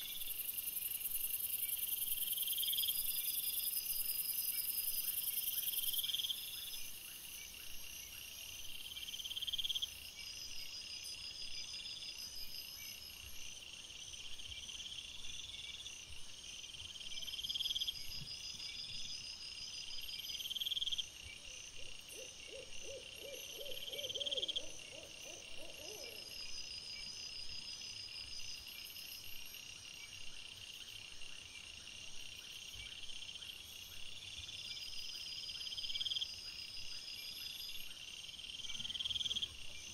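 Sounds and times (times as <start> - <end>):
insect trill: 0.0 - 39.9
insects chirping: 0.0 - 39.9
rapid pulsed insect calls: 0.0 - 39.9.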